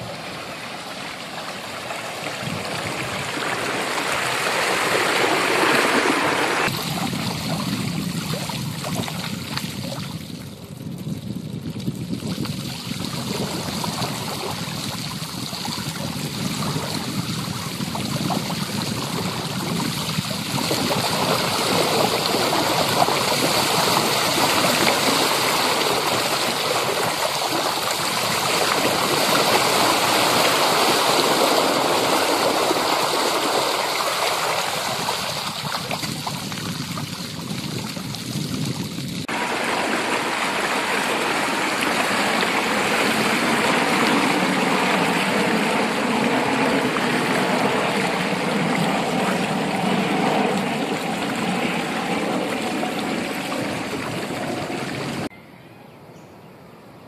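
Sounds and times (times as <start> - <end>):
bicycle tyre splashing through water: 0.0 - 55.3.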